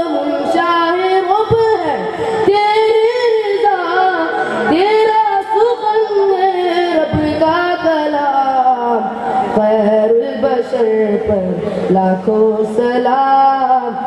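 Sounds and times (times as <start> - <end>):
boy singing into a microphone: 0.0 - 14.0.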